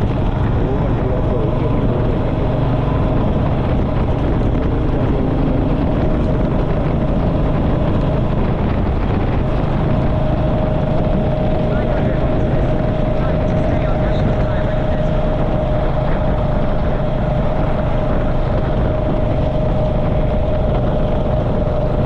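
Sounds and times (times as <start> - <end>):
motorcycle engine running: 0.0 - 22.0
road noise: 0.0 - 22.0
steady whine: 0.0 - 22.0.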